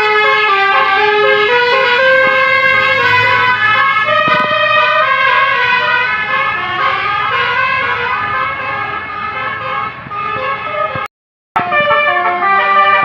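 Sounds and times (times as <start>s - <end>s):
musical bus horn tune: 0.0s - 13.0s.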